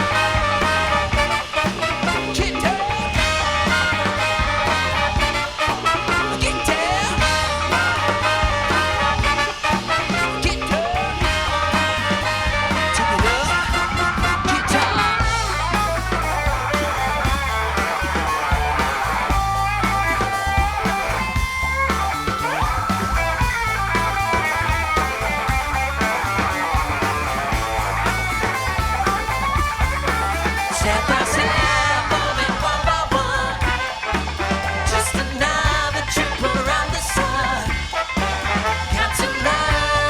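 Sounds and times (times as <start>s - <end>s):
live soul band playing: 0.0s - 40.0s.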